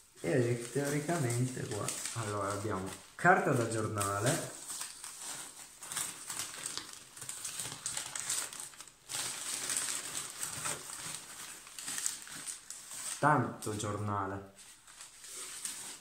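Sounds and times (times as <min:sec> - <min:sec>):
newspaper rustling and crinkling: 0:00.0 - 0:16.0.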